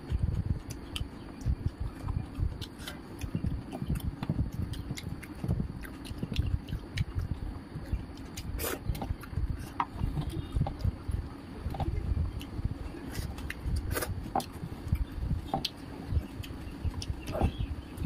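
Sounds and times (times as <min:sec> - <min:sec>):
chewing and mouth sounds: 0:00.0 - 0:18.0.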